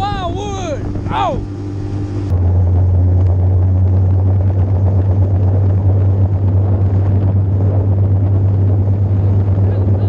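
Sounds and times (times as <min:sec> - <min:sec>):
outboard motor droning: 0:00.0 - 0:10.0
rushing wind noise: 0:00.0 - 0:10.0.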